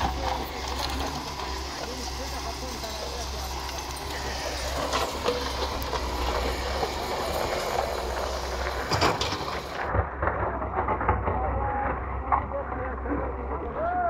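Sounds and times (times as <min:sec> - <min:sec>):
sharp knocks and clatter: 0:00.0 - 0:13.6
excavator diesel engine running: 0:00.0 - 0:14.0.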